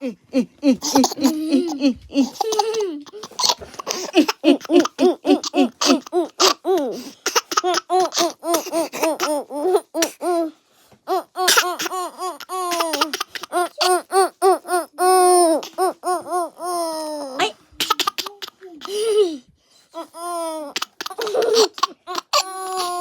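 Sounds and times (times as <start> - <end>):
baby laughing: 0.3 - 10.5, 11.1 - 19.2, 20.0 - 23.0.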